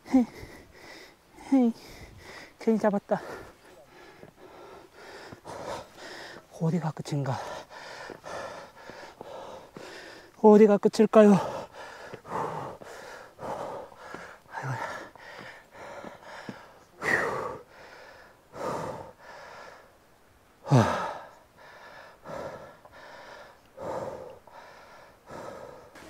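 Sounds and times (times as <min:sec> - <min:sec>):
man breathing hard: 0:00.0 - 0:02.6, 0:03.2 - 0:06.5, 0:07.3 - 0:10.4, 0:11.3 - 0:20.0, 0:20.6 - 0:26.0.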